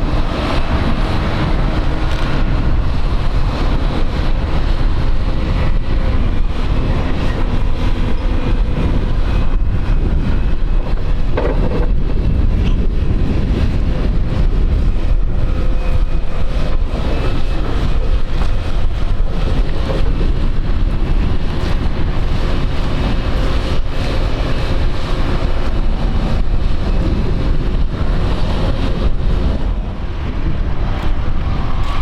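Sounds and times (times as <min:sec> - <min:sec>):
jet engines rumbling: 0:00.0 - 0:32.0
wind on microphone: 0:00.0 - 0:32.0.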